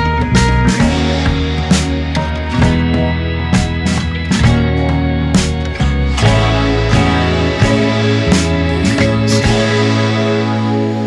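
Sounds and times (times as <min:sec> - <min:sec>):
guitar chords music: 0:00.0 - 0:11.0.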